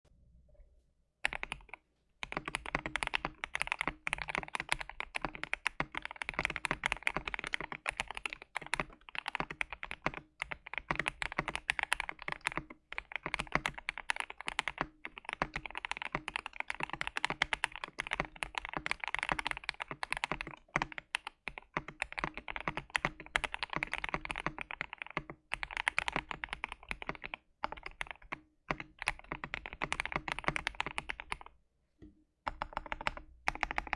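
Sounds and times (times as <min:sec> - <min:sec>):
mechanical keyboard typing: 0:01.2 - 0:31.5, 0:32.5 - 0:33.9.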